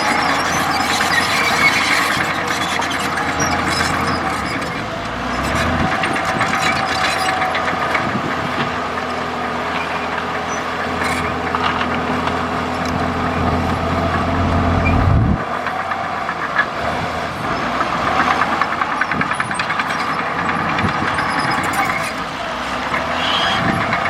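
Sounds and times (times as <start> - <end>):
bulldozer diesel engine: 0.0 - 24.0.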